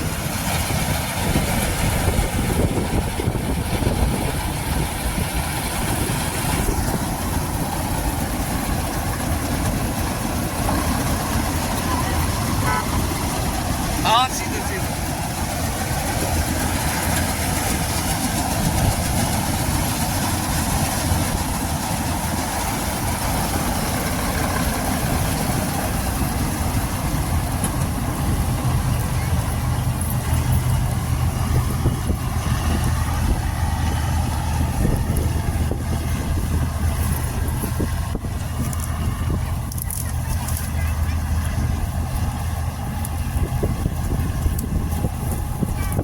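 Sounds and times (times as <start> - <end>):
combine harvester engine drone: 0.0 - 46.0.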